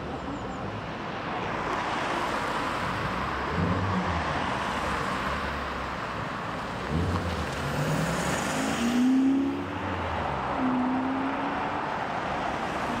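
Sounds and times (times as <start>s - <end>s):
road and tyre noise: 0.0s - 13.0s
slow-moving car engines: 0.0s - 13.0s.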